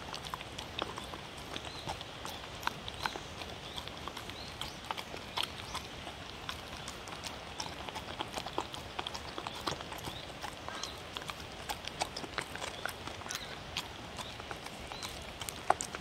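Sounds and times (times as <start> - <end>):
dog crunching vegetables: 0.0 - 16.0.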